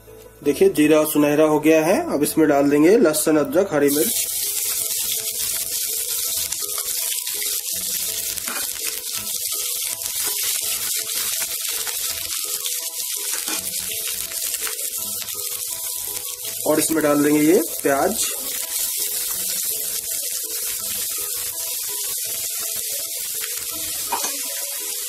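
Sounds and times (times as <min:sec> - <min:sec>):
food sizzling in hot oil: 0:03.8 - 0:25.0.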